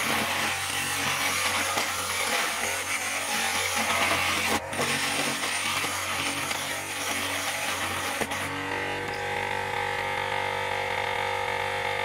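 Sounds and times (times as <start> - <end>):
steel tool scraping spinning wood: 0.0 - 9.8
lathe motor humming: 0.0 - 11.8.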